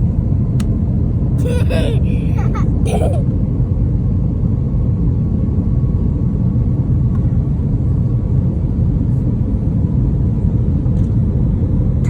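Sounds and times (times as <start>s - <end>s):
airliner cabin rumble: 0.1s - 12.0s.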